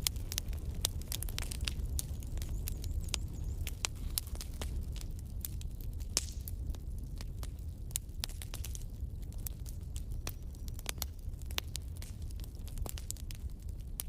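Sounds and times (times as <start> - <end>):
logs crackling and popping: 0.0 - 14.0
low rumble of fire: 0.0 - 14.0.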